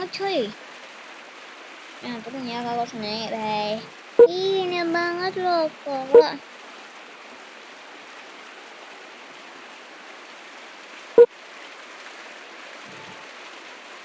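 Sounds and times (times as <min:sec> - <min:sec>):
rain-like hiss: 0:00.0 - 0:14.0.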